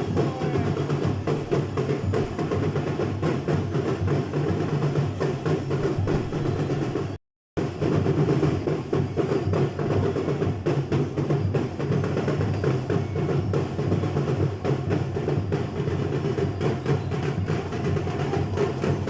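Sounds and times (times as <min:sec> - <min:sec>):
bass drums: 0:00.0 - 0:19.0
snare drums: 0:00.0 - 0:19.0.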